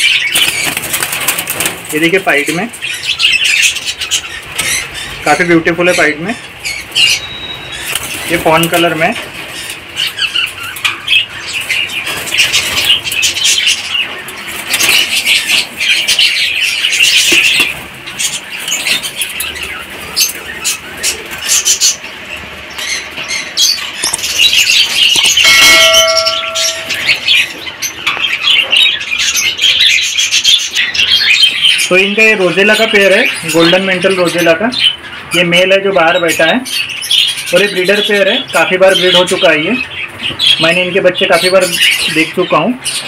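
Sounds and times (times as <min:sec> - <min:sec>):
parrots chattering and calling: 0:00.0 - 0:43.0.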